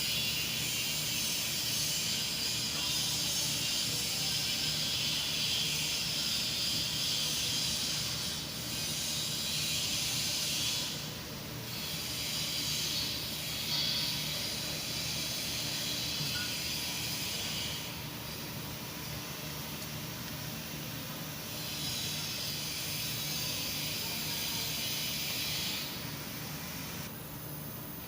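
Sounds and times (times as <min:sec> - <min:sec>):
loud steady hiss: 0:00.0 - 0:28.0.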